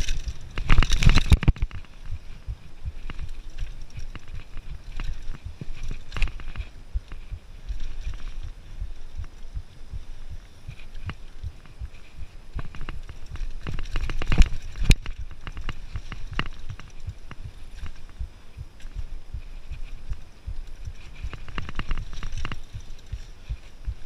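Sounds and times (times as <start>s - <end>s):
bike rattling over bumps: 0.0s - 24.0s
bike tyres rumbling on dirt: 0.0s - 24.0s.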